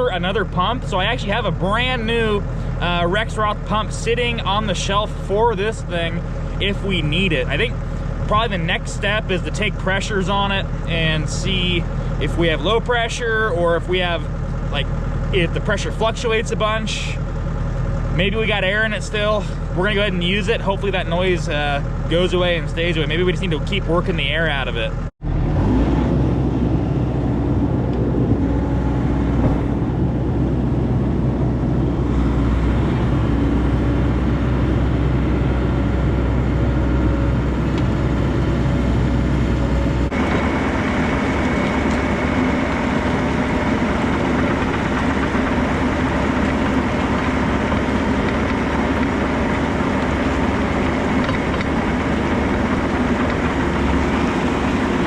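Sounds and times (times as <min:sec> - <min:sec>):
excavator diesel engine running: 0:00.0 - 0:55.0
hydraulic pump whine: 0:00.0 - 0:55.0.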